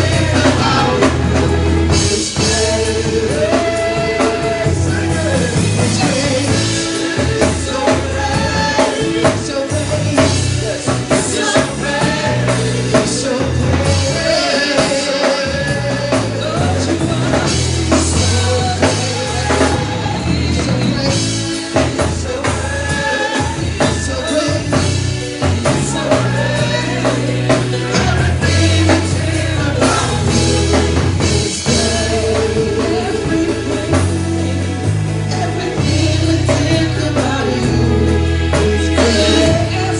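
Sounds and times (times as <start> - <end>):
bass: 0.0 - 39.9
drum kit beat: 0.0 - 39.9
person singing: 0.0 - 39.9.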